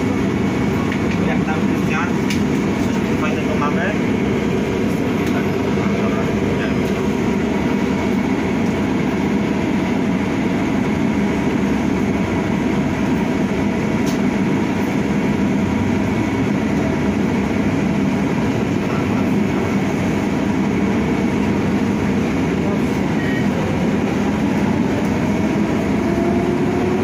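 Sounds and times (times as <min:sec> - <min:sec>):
bus rolling and drive noise: 0:00.0 - 0:27.0.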